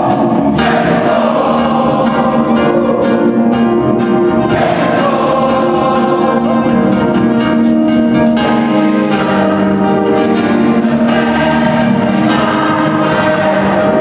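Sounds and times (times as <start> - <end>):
gospel choir singing: 0.0 - 14.0.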